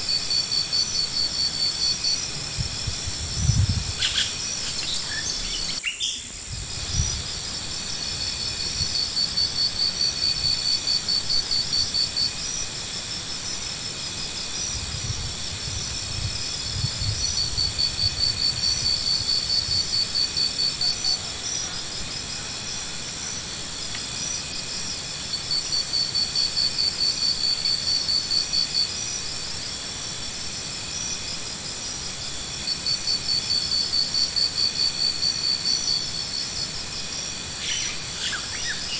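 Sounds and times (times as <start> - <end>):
insects chirping in rapid pulses: 0.0 - 38.9
steady high insect drone: 0.0 - 38.9.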